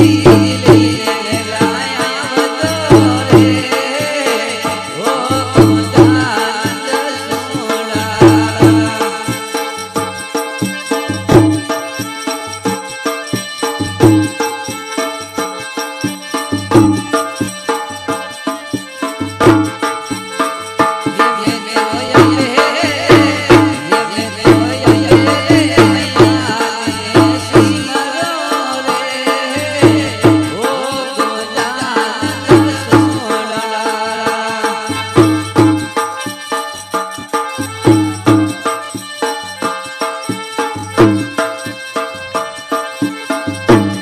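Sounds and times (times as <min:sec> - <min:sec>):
driving drum beat: 0:00.0 - 0:44.0.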